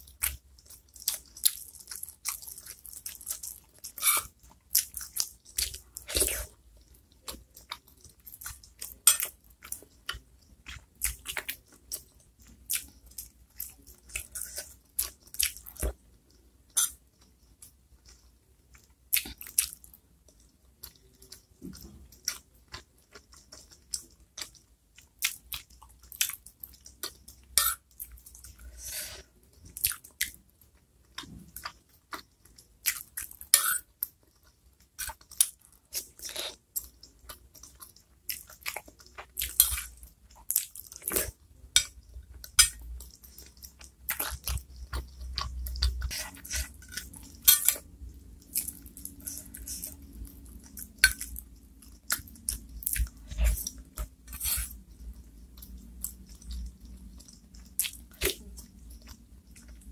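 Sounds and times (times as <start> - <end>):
close chewing mouth sounds: 0.0 - 59.9.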